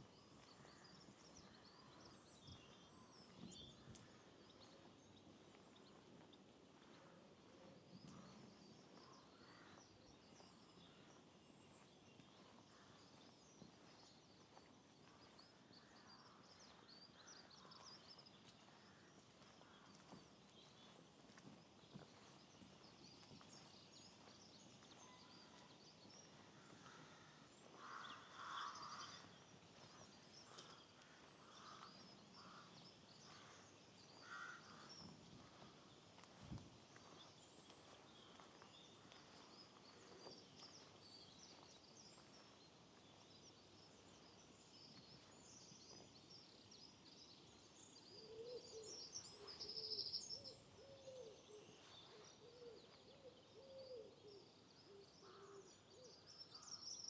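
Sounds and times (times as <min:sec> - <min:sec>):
small birds chirping: 0:07.8 - 0:57.0.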